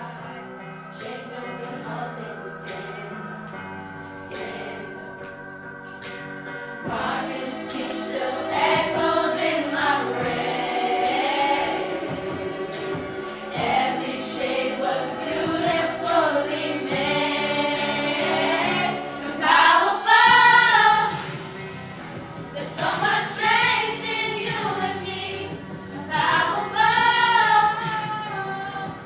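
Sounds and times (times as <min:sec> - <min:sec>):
girls choir singing: 0:00.9 - 0:03.2, 0:04.1 - 0:05.5, 0:06.9 - 0:21.6, 0:22.5 - 0:29.0.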